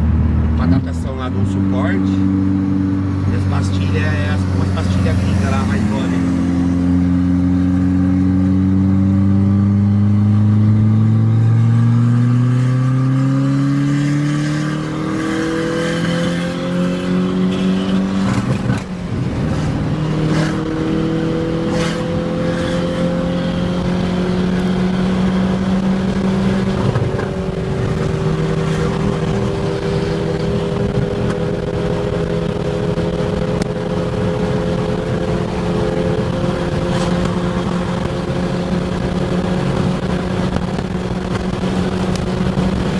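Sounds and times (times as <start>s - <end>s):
car engine accelerating: 0.0s - 42.9s.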